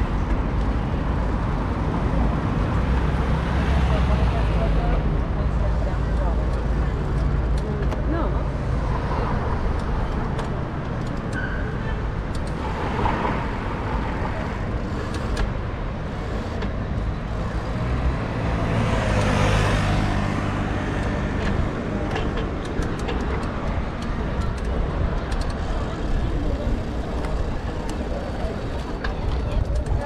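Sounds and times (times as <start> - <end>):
road noise and low rumble: 0.0 - 30.0.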